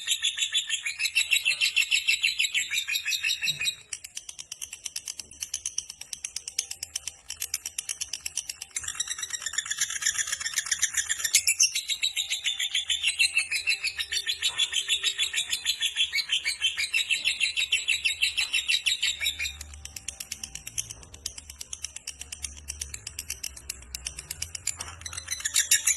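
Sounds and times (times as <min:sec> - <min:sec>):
lovebird chattering: 0:00.0 - 0:25.9.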